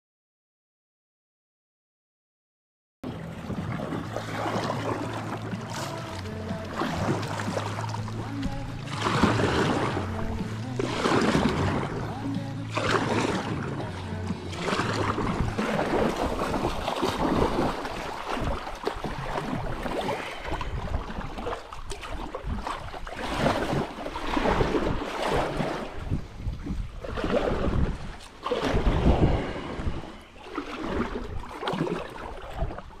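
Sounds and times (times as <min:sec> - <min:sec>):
paddle splashing water: 0:03.0 - 0:33.0
wind rumbling on microphone: 0:03.0 - 0:33.0.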